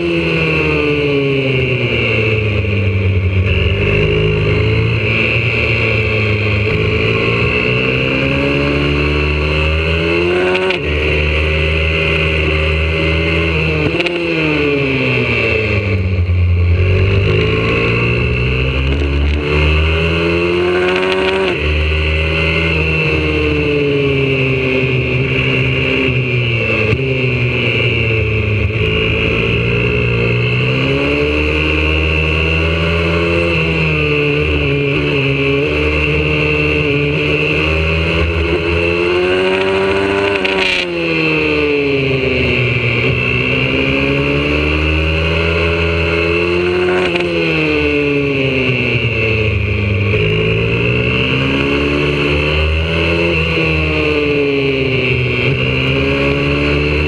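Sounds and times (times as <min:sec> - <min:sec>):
pit bike engine accelerating: 0:00.0 - 0:57.0.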